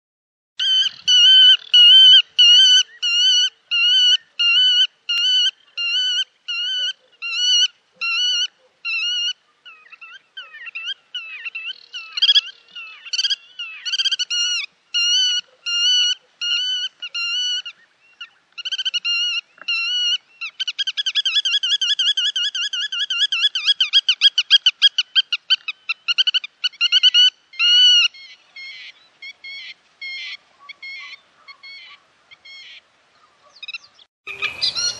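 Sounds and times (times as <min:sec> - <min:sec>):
godwits calling: 0:00.6 - 0:34.9.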